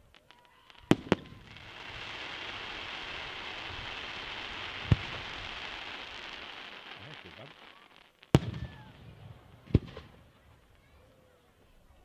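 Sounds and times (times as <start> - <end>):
fireworks crackling hiss: 0.0 - 12.0.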